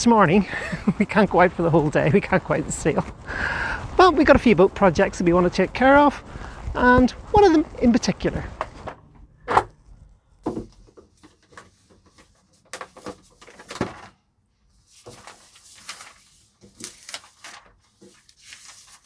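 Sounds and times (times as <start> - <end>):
newspaper rustling and crackling: 1.1 - 9.0, 9.7 - 19.0.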